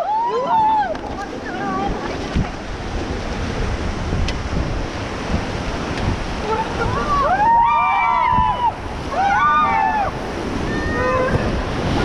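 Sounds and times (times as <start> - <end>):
rushing river whitewater: 0.0 - 12.0
wind buffeting microphone: 0.0 - 12.0.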